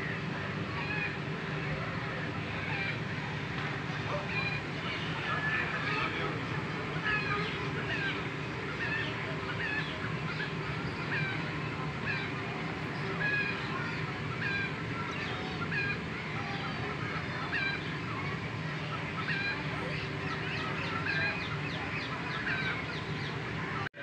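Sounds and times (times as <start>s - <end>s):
steady low hum: 0.0s - 23.9s
birds chirping: 0.1s - 24.0s.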